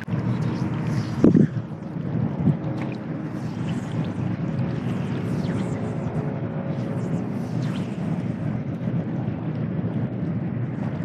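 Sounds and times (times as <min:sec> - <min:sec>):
small waves lapping: 0:00.0 - 0:09.4
wind buffeting microphone: 0:00.0 - 0:11.0.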